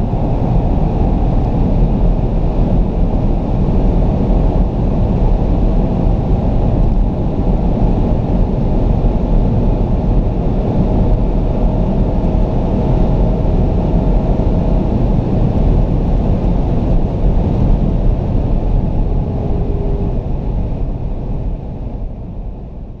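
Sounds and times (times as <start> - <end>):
car engine drone: 0.0 - 23.0
heavy wind and road noise: 0.0 - 23.0.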